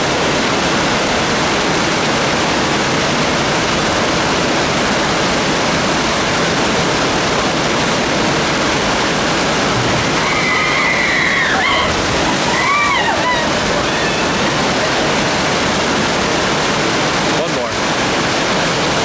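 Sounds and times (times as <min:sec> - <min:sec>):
rushing water and waterfall: 0:00.0 - 0:19.0.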